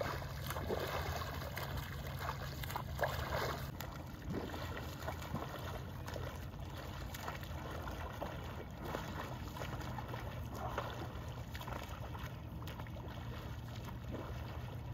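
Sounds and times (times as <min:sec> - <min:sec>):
steady low rumble: 0:00.0 - 0:14.9
water splashing around paddle: 0:00.0 - 0:14.9.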